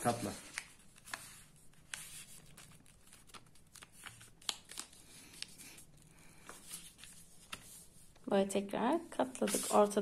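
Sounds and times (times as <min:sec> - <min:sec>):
paper folding and rustling: 0:00.0 - 0:08.2, 0:09.2 - 0:10.0.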